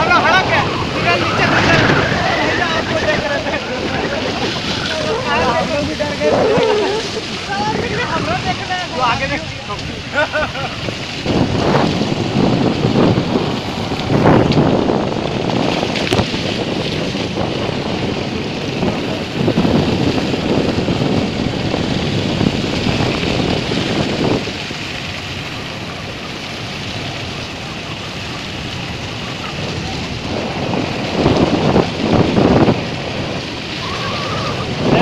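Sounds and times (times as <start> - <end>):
motorcycle ride noise: 0.0 - 35.0
wind buffeting microphone: 0.0 - 35.0.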